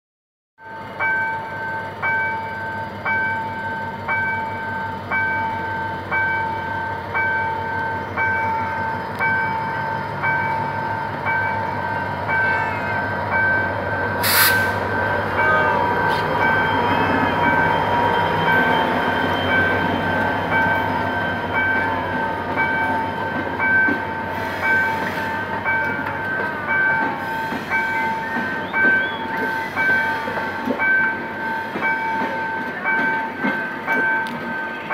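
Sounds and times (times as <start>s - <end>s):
diesel locomotive rumbling past: 0.6s - 34.9s
level crossing warning bell: 0.6s - 34.9s.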